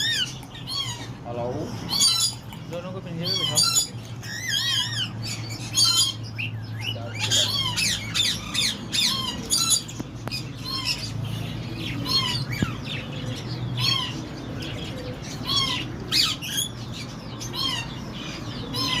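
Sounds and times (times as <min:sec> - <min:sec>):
parakeets squawking: 0:00.0 - 0:19.0.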